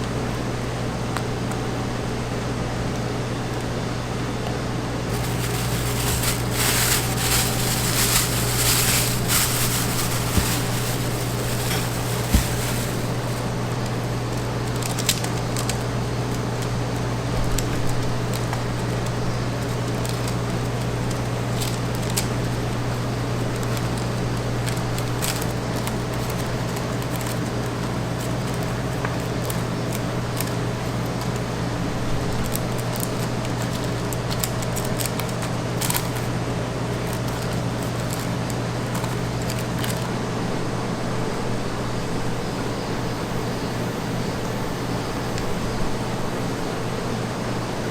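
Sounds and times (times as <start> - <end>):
low mechanical hum: 0.0 - 47.9.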